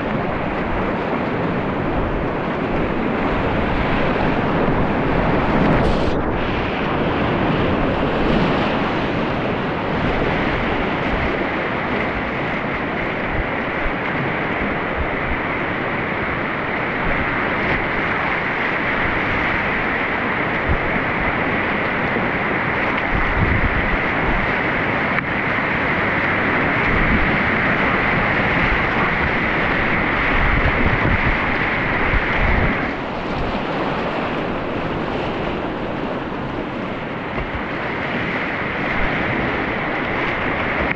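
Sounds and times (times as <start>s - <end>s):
rushing stream water: 0.0s - 40.9s
wind buffeting microphone: 0.0s - 40.9s.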